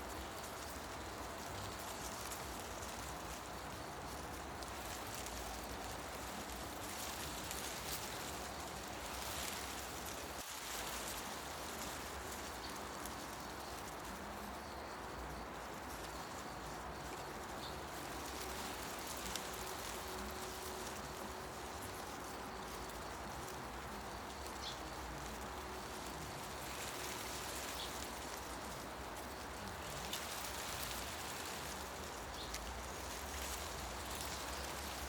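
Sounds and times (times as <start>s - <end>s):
wind rustling leaves: 0.0s - 35.0s.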